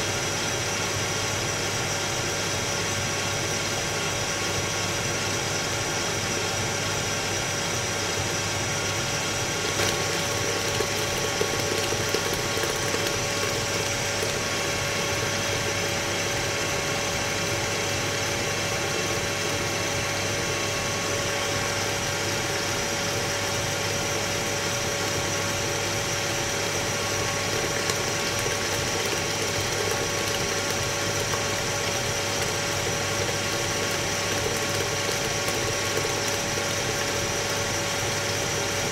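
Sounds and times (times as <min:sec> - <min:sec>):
stand mixer motor humming: 0:00.0 - 0:38.9.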